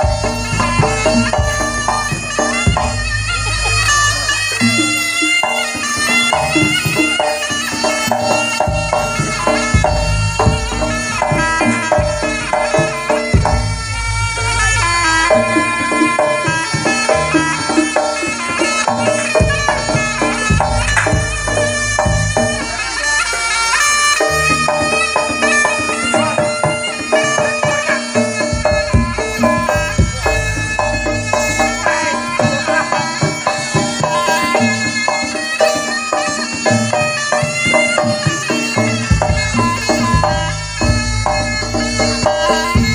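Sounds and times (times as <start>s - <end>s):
drums and percussion: 0.0s - 42.9s
reedy wind instrument melody: 0.0s - 42.9s.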